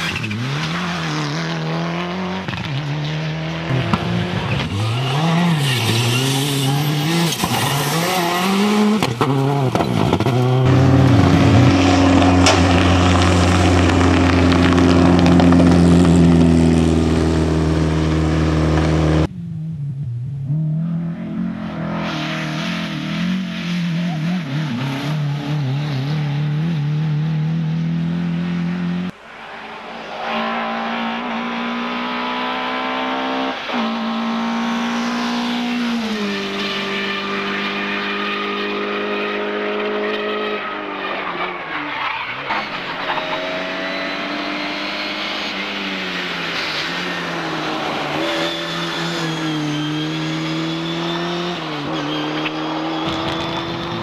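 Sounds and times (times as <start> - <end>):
racing car engines revving: 0.0 - 54.0.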